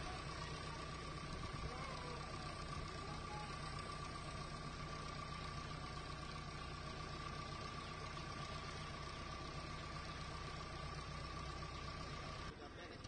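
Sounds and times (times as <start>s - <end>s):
engine hum with high whine: 0.0s - 13.0s.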